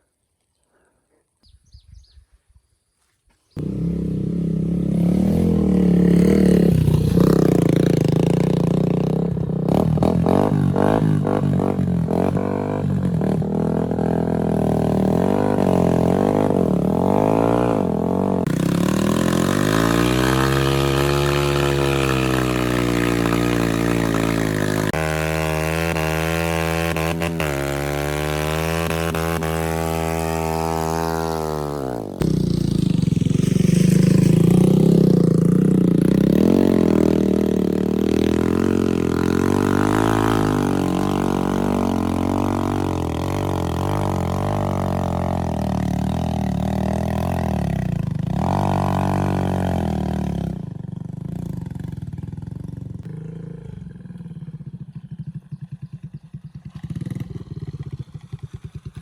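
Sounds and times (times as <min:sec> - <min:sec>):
motorcycle engine starting and revving: 0:03.6 - 0:59.0.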